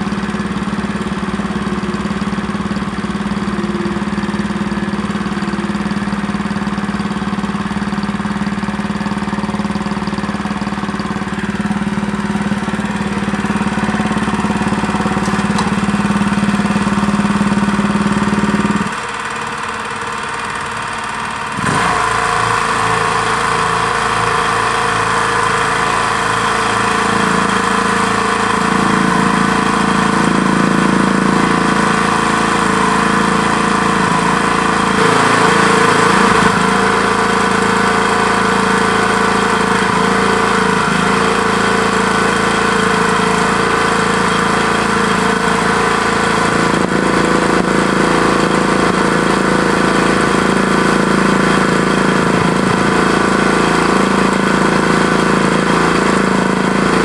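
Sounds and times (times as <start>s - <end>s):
small petrol engine idling: 0.0s - 57.0s.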